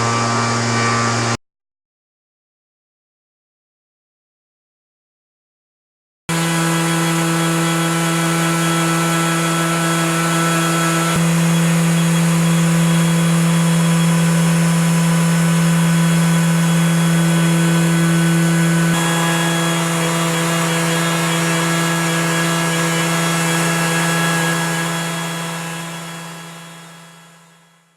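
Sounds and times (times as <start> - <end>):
router motor whine: 0.0 - 1.4, 6.3 - 27.9.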